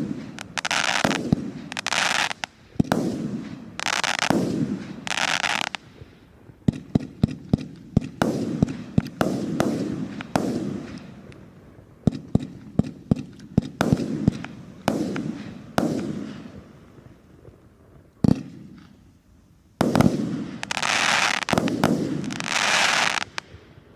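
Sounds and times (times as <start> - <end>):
rushing fireworks bursts: 0.0 - 17.6, 19.8 - 23.9
fireworks bangs: 0.0 - 19.0, 19.8 - 23.9.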